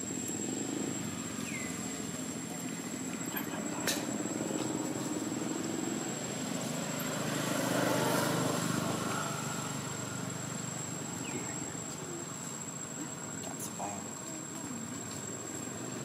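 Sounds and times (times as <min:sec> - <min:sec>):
motor scooter engines passing: 0:00.0 - 0:16.0.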